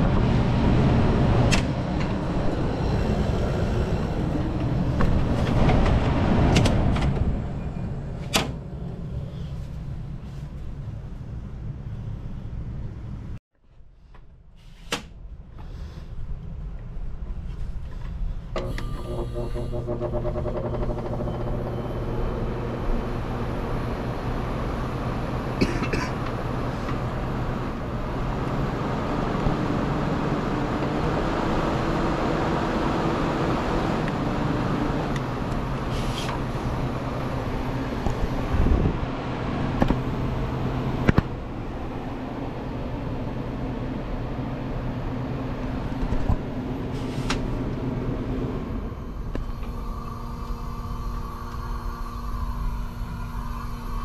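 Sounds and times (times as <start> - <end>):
air conditioner fan rushing: 0.0 - 11.2, 17.2 - 54.0.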